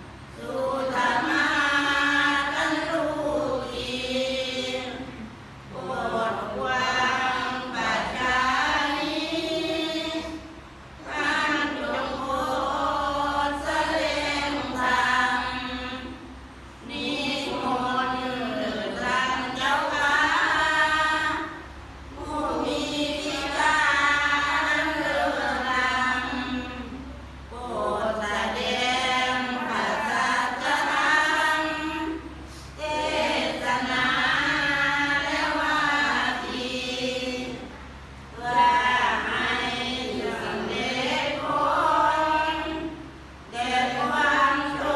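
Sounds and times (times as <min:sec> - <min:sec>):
group chanting in unison: 0:00.3 - 0:44.9.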